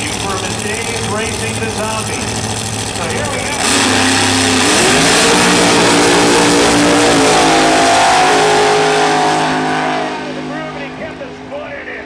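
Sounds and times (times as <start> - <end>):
drag car engine at full throttle: 0.0 - 12.0.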